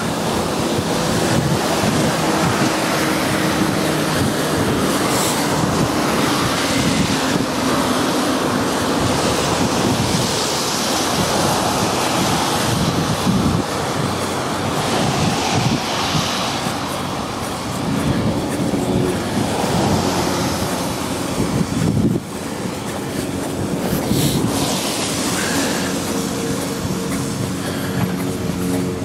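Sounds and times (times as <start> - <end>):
road traffic passing: 0.0 - 29.0
wind buffeting microphone: 0.0 - 29.0.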